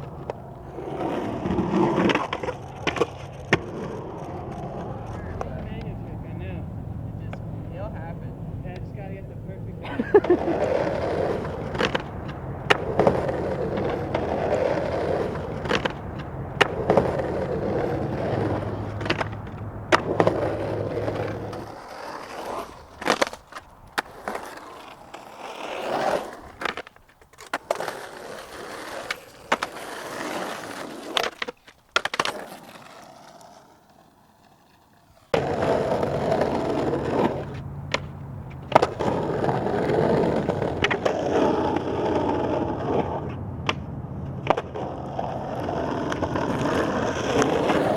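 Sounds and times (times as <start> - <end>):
skateboard clacks: 0.0 - 47.9
skateboard wheels rolling on pavement: 0.0 - 47.9.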